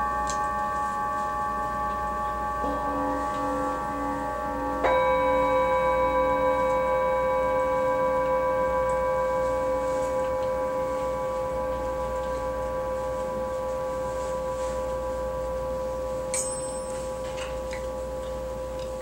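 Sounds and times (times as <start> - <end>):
gongs ringing: 0.0 - 19.0
soft gong strike: 1.8 - 18.0.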